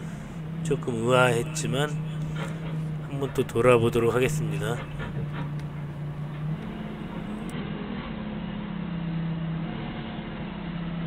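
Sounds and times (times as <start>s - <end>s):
forklift engine hum: 0.0s - 11.0s.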